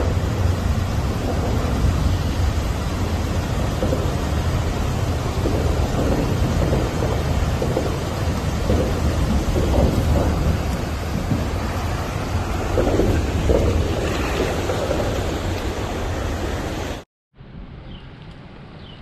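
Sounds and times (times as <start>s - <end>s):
white water rushing: 0.0s - 17.0s.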